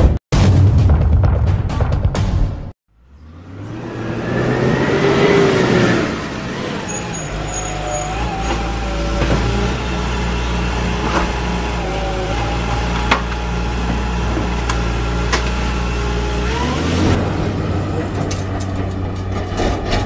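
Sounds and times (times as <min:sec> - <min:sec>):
heavy vehicle engine revving: 0:03.0 - 0:20.0.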